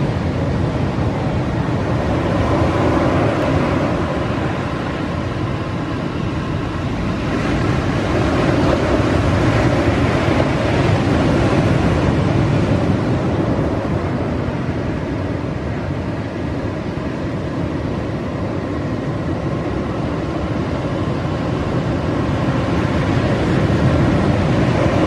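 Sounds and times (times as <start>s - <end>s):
ocean surf breaking: 0.0s - 25.0s
wind on microphone: 0.0s - 25.0s.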